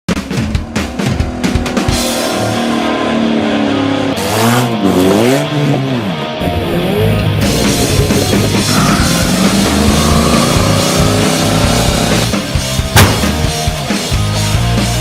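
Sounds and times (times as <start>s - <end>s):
rock music: 0.1s - 15.0s.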